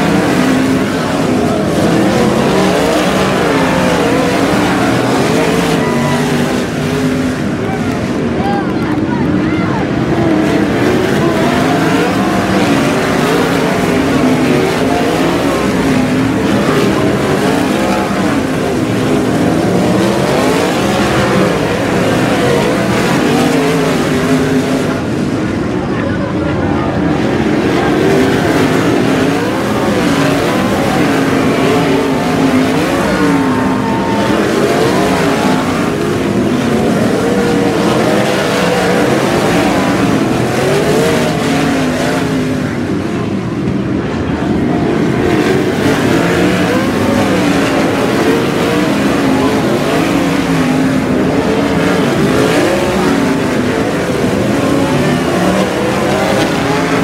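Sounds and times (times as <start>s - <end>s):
racing car engines: 0.0s - 57.0s.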